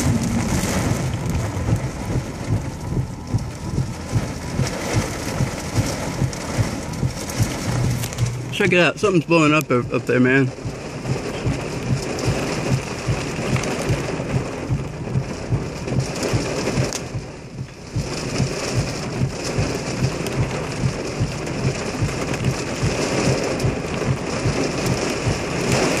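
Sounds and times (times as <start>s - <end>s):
heavy rain on car roof: 0.0s - 26.0s.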